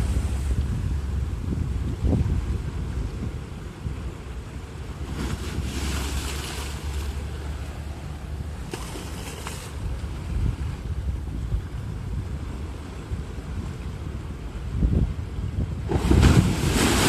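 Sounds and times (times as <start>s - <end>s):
sea waves breaking on shore: 0.0s - 17.0s
wind rumble on microphone: 0.0s - 17.0s.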